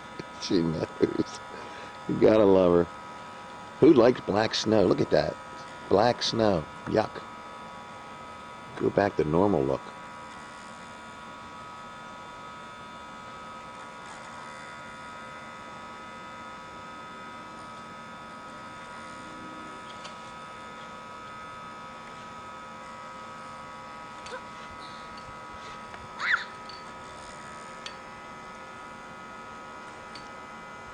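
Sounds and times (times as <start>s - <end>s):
electrical hum and whine: 0.0s - 30.9s.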